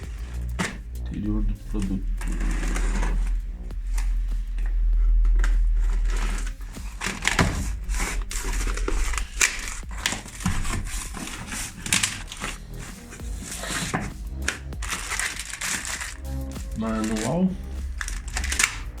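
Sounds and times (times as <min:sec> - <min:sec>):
deep handling rumble: 0:00.0 - 0:19.0.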